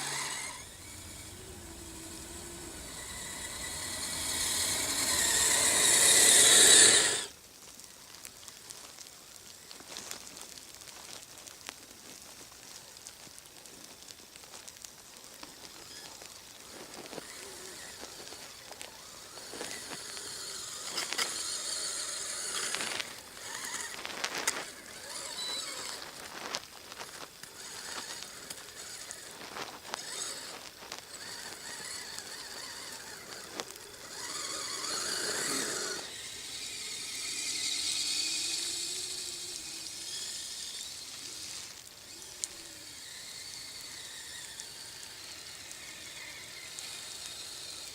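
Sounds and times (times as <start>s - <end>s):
toy snow vehicle running through snow: 0.0s - 7.4s, 9.7s - 47.9s
clicks and crackles: 0.0s - 47.9s.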